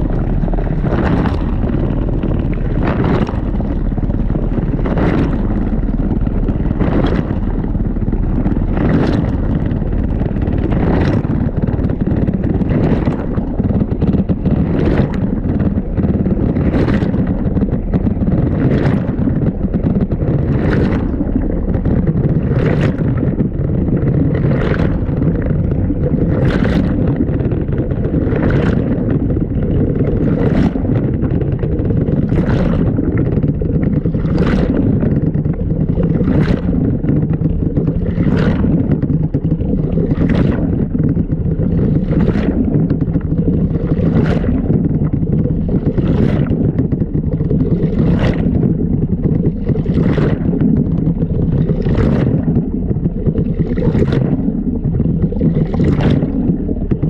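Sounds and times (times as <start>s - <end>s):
water splashing in drum: 0.0s - 57.0s.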